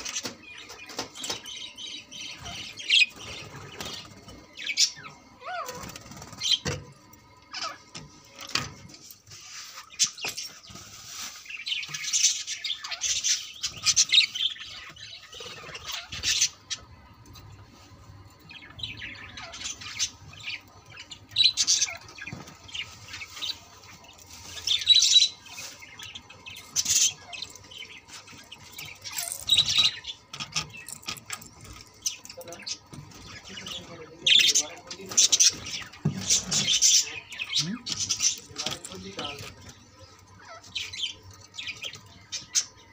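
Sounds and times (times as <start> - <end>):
budgerigars chattering and squawking: 0.0 - 42.9.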